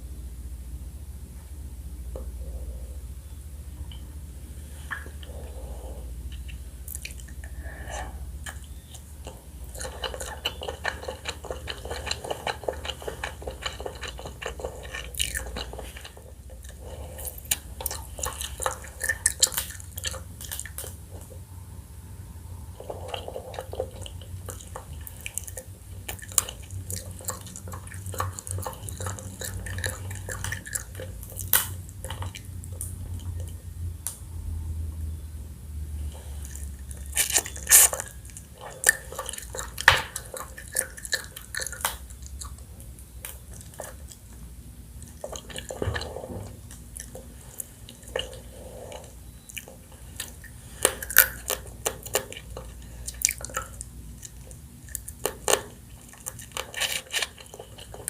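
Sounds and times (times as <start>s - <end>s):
wet chewing and smacking: 4.8s - 21.5s, 22.7s - 34.3s, 36.2s - 58.0s.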